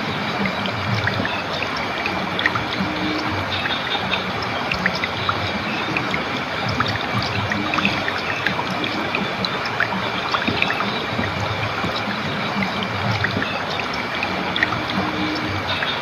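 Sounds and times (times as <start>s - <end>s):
small water splashes and drips: 0.0s - 16.0s
water flowing and trickling: 0.0s - 16.0s.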